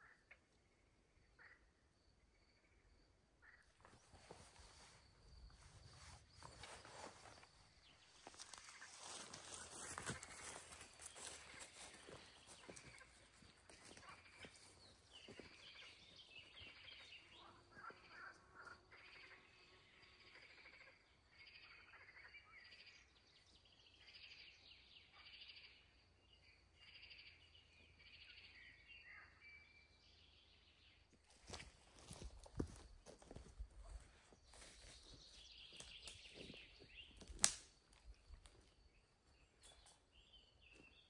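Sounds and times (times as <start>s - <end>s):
faint birds chirping: 0.0s - 41.0s.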